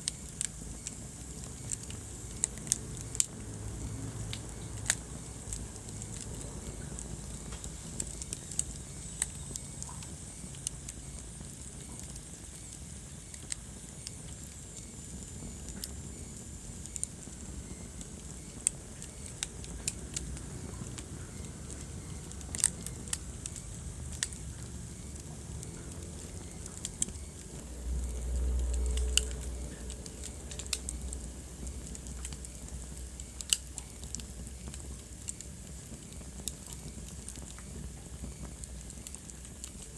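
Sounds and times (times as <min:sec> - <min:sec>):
fire crackling and popping: 0:00.0 - 0:39.9
low rumble of flame: 0:00.0 - 0:39.9
soft steady fire hiss: 0:00.0 - 0:39.9.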